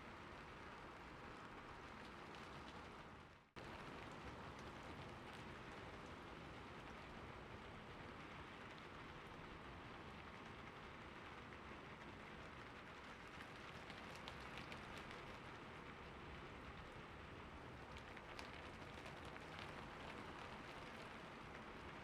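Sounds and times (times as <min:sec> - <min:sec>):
soft steady rain: 0:00.0 - 0:22.0.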